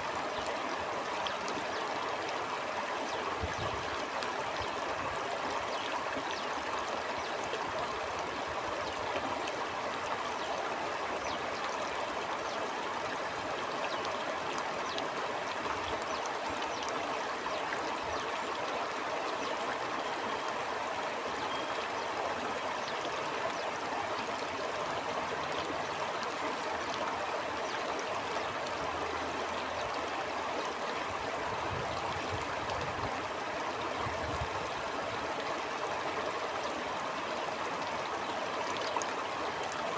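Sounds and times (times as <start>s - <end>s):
stream water flowing and gurgling: 0.0s - 39.9s.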